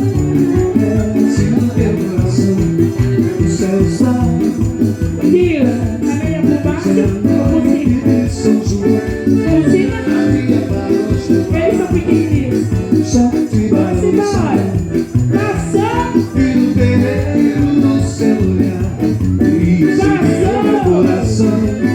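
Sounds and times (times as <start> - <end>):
live band playing upbeat music: 0.0 - 21.9.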